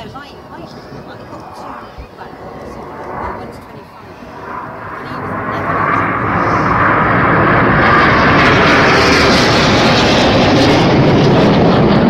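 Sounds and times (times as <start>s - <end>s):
jet roar passing overhead: 0.0s - 12.0s.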